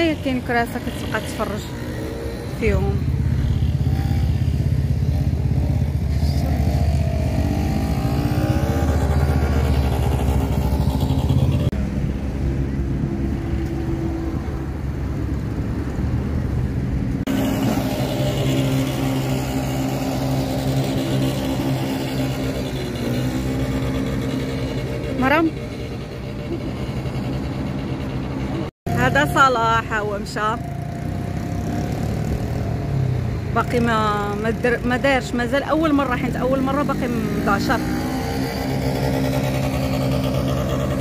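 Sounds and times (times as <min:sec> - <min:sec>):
quad bike engine revving: 0:00.0 - 0:12.0, 0:17.2 - 0:41.0.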